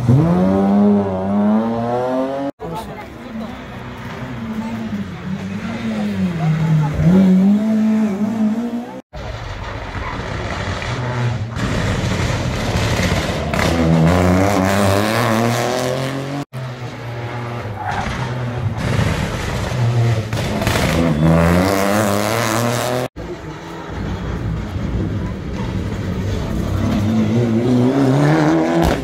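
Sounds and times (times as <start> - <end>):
rally cars passing: 0.0 - 9.0, 9.7 - 29.0.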